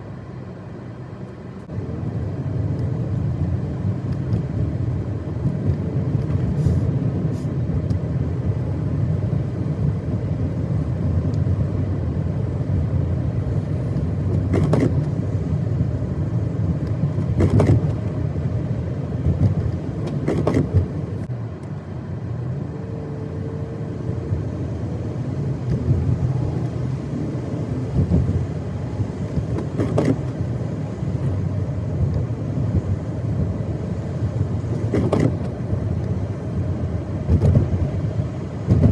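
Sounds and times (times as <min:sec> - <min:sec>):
car tyres rumbling on snow: 0:00.0 - 0:38.9.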